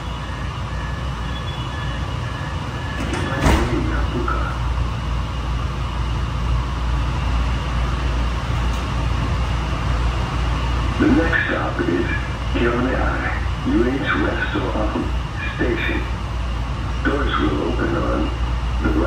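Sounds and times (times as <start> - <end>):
rail car rumbling on track: 0.0 - 19.0.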